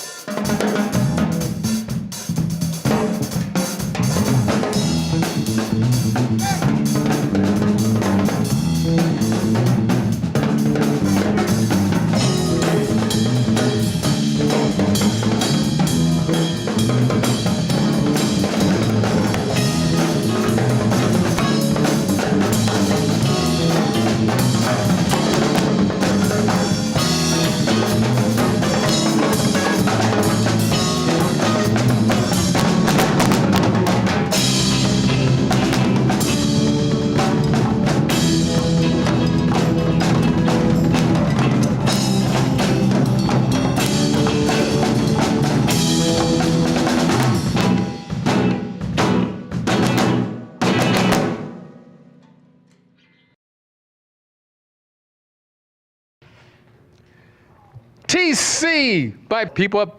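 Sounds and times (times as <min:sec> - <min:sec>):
latin fusion band playing: 0:00.0 - 0:51.5
drum kit and percussion: 0:00.0 - 0:52.5.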